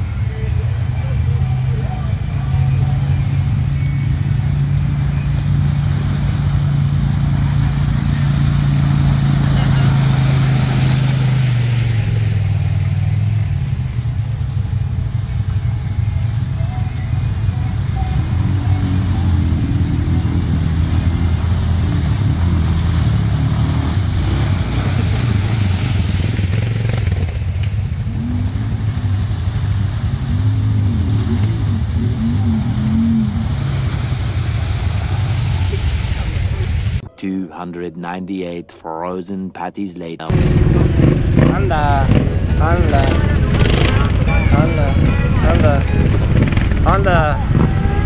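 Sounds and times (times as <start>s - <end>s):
off-road vehicle engine running: 0.0s - 37.1s, 40.3s - 48.0s.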